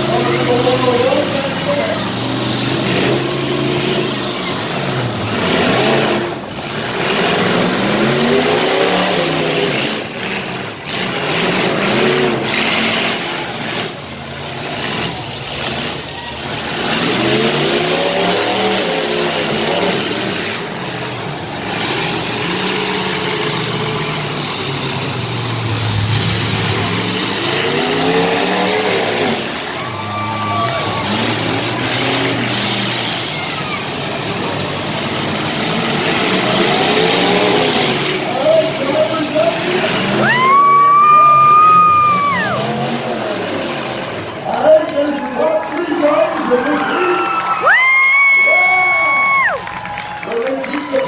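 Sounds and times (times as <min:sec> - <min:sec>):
car engines revving hard: 0:00.0 - 0:51.0
engine and exhaust noise: 0:00.0 - 0:51.0.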